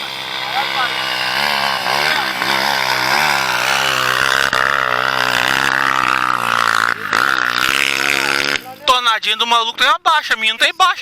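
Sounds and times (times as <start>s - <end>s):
dirt bike engine revving: 0.0s - 8.9s.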